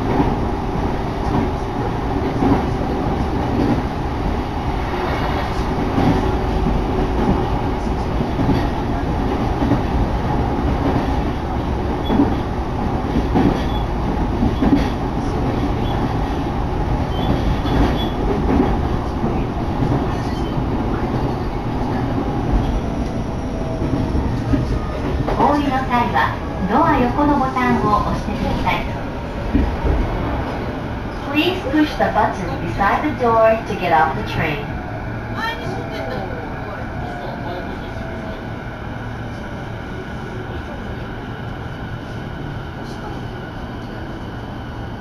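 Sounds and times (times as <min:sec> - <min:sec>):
train rumble from inside car: 0:00.0 - 0:34.8, 0:39.2 - 0:45.0.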